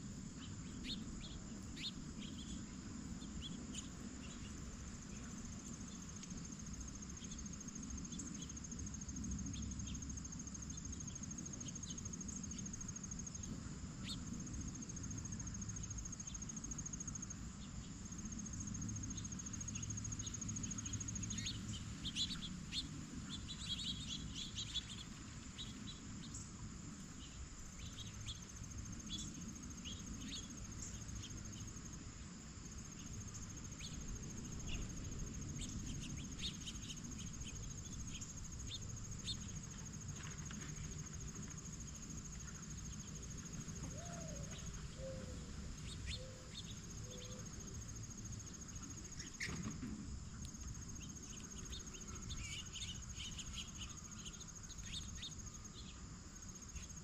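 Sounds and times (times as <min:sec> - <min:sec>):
low outdoor rumble: 0:00.0 - 0:56.6
insects trilling: 0:00.0 - 0:57.0.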